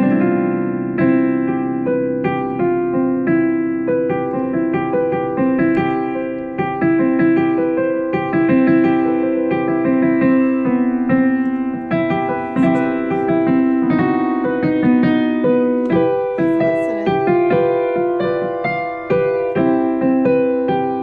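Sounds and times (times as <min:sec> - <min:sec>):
piano playing: 0:00.0 - 0:21.0.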